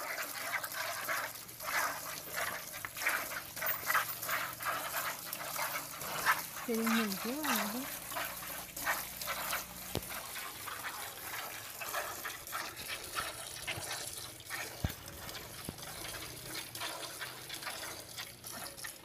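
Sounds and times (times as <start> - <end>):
milk squirting into a bucket: 0.0 - 19.0.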